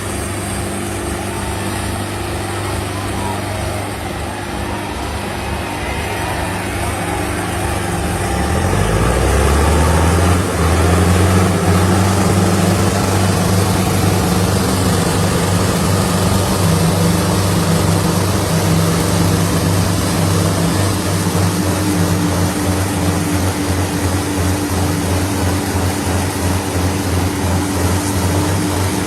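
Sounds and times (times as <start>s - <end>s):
tractor diesel engine under load: 0.0s - 29.0s.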